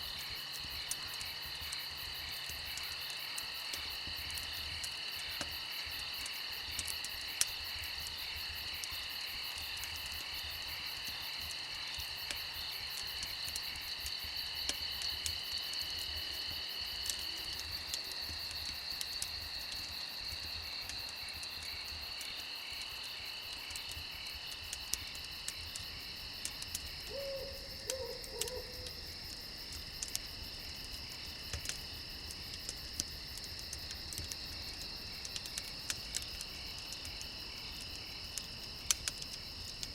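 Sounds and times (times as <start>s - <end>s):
crickets trilling: 0.0s - 39.9s
wood fire crackling: 0.0s - 39.9s.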